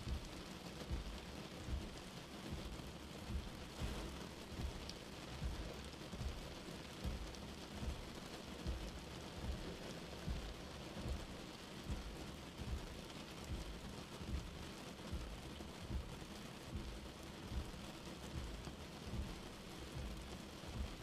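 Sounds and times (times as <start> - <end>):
rain on glass: 0.0 - 21.0.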